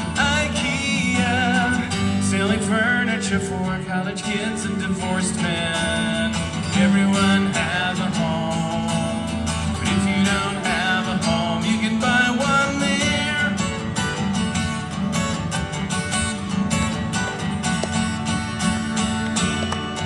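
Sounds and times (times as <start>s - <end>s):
live folk-rock music with guitar: 0.0s - 20.0s.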